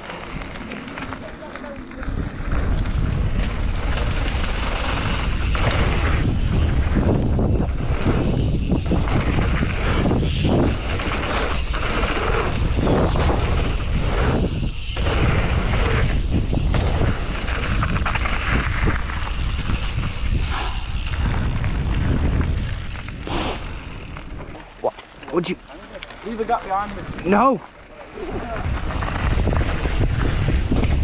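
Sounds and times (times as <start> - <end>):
bike rattling: 0.0 - 31.0
wind buffeting microphone: 1.7 - 24.6, 26.2 - 31.0.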